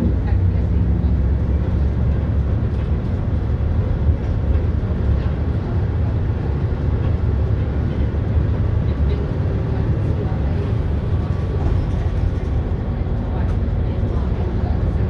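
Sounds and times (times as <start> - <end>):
bus engine and road noise drone: 0.0 - 15.0.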